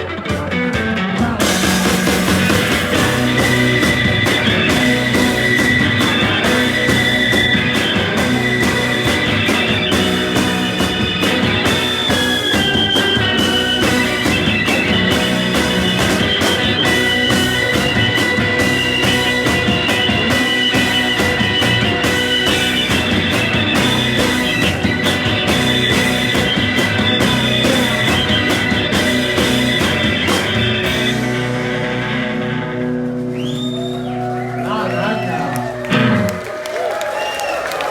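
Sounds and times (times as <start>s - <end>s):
drum kit: 0.0s - 37.9s
electric guitars: 0.0s - 37.9s.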